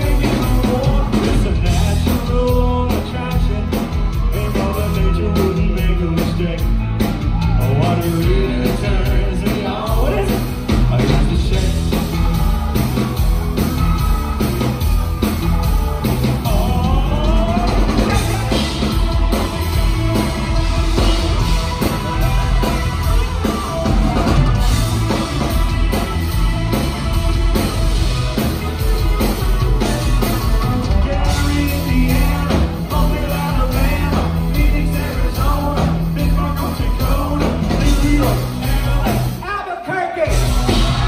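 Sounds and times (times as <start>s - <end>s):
person singing: 0.0s - 13.4s, 15.6s - 26.9s, 29.5s - 41.0s
drum kit: 0.0s - 39.6s, 40.2s - 41.0s
bass: 0.0s - 41.0s
live band music: 0.0s - 41.0s.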